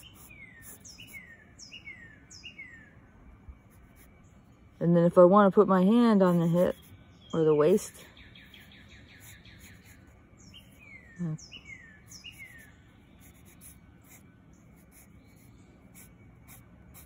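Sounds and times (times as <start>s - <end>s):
birds chirping faintly: 0.0s - 17.0s
outdoor background hiss: 0.0s - 17.0s.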